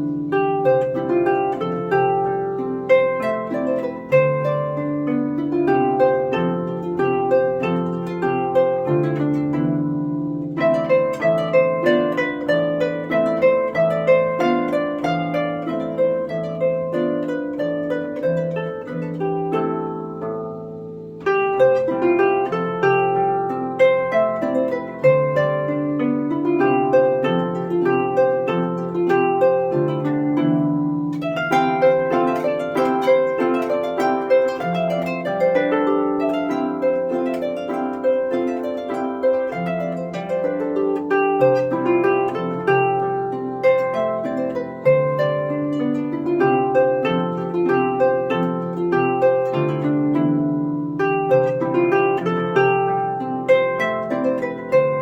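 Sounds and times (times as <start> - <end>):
harp played solo: 0.0 - 55.0.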